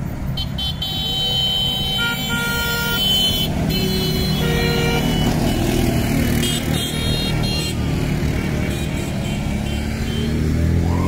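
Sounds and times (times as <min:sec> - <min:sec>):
atv engines droning: 0:00.0 - 0:11.0.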